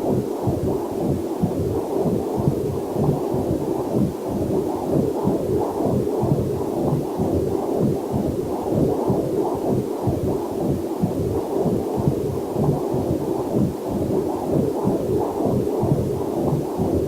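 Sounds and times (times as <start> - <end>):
fetal heartbeat pulsing: 0.0 - 17.0.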